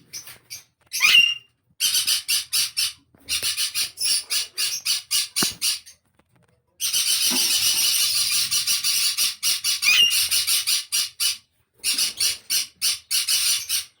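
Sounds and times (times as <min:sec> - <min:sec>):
parakeet squawking: 0:00.1 - 0:05.9, 0:06.8 - 0:13.8.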